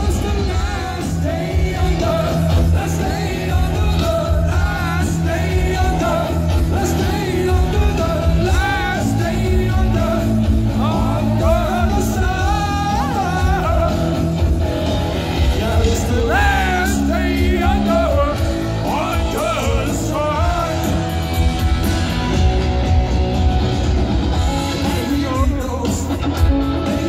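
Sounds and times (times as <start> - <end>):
person singing lead vocal: 0.0 - 14.6, 15.2 - 21.3, 24.7 - 27.0
bass guitar: 0.0 - 27.0
drums: 0.0 - 27.0
electric guitars: 0.0 - 27.0.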